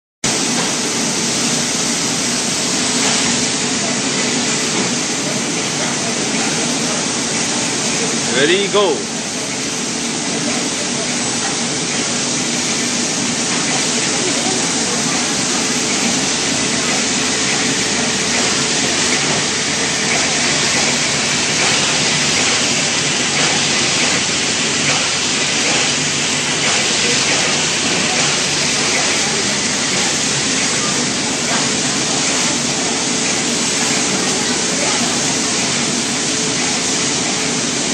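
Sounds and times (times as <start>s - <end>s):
machine hissing noise: 0.3s - 37.9s.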